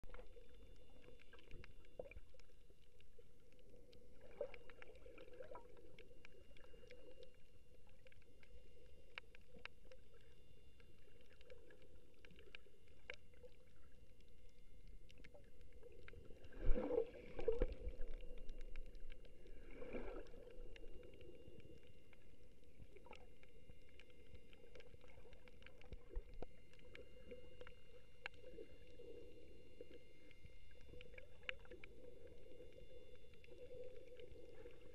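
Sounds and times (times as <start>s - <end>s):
small clicks and crackles: 0.0s - 34.9s
underwater hum: 0.0s - 34.9s.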